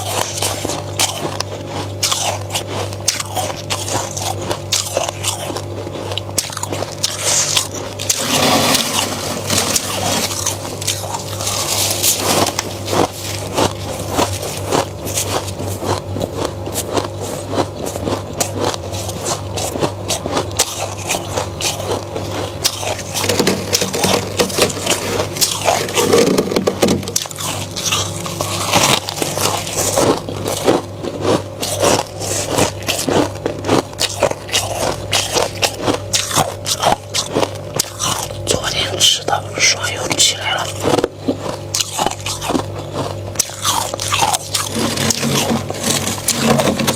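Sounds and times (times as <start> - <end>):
frost scraping and crunching: 0.0 - 46.9
steady low hum: 0.0 - 46.9.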